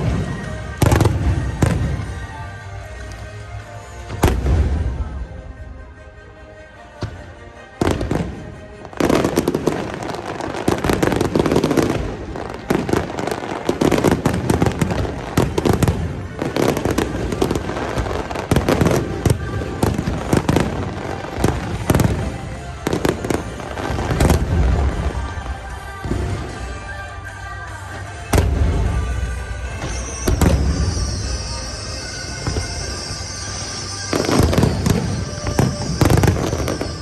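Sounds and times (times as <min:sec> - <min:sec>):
fireworks bangs and crackling: 0:00.0 - 0:05.4, 0:07.0 - 0:37.0.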